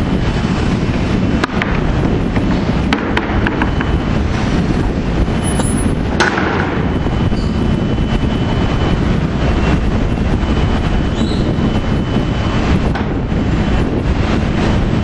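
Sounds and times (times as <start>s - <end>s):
machinery rumbling: 0.0s - 15.0s.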